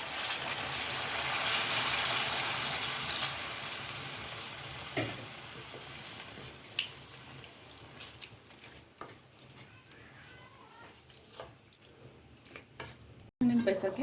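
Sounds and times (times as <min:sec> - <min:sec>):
curry sizzling in a pan: 0:00.0 - 0:13.3.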